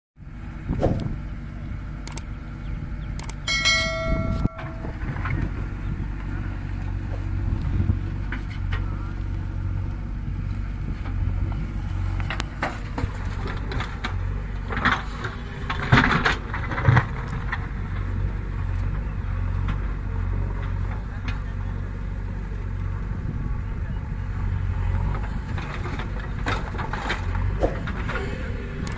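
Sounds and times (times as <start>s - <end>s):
diesel engines droning: 0.2s - 28.9s.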